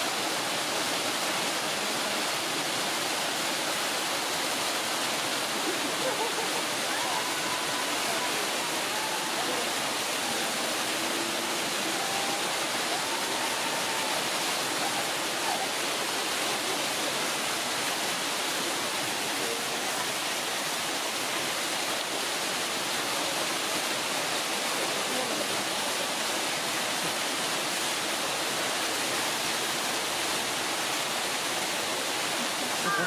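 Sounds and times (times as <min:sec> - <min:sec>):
rush of running water: 0:00.0 - 0:33.0.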